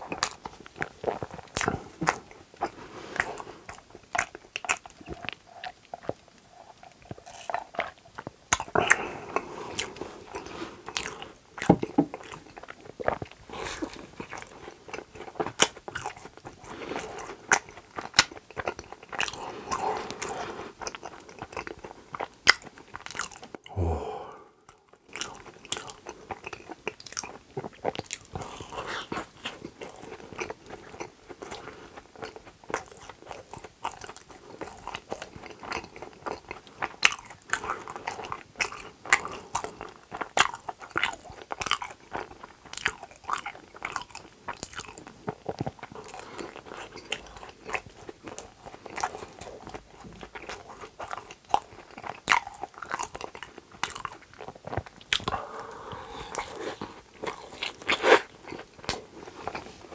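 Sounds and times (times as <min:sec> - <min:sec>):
chewing with mouth clicks: 0:00.0 - 0:23.7, 0:24.7 - 0:59.9.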